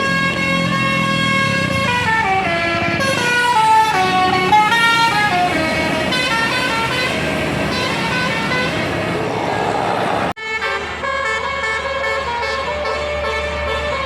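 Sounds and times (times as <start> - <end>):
air horn playing a melody: 0.0 - 9.2, 10.4 - 14.0
engine and road noise: 0.0 - 14.0.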